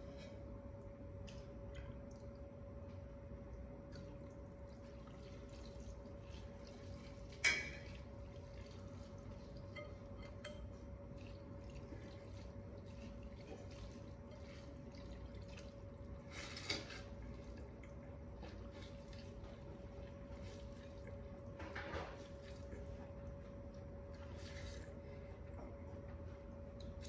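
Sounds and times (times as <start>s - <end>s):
hands squishing noodles in broth: 0.1s - 27.0s.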